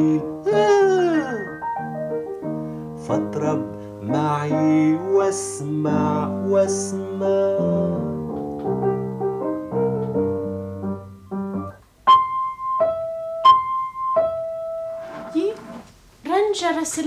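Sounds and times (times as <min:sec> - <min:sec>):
keyboard instrumental: 0:00.0 - 0:15.8.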